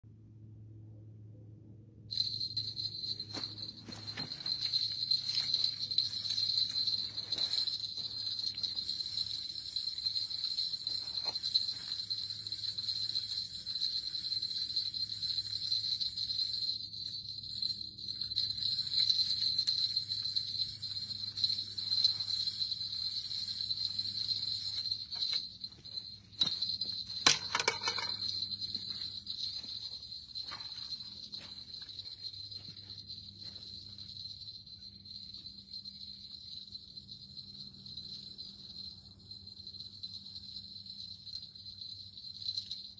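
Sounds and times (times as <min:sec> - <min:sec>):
crickets trilling: 0:02.1 - 0:42.9.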